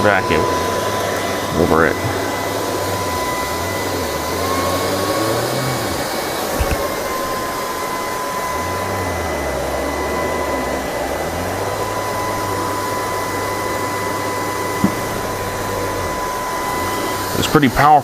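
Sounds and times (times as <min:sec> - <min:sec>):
robot vacuum fan whine: 0:00.0 - 0:18.0.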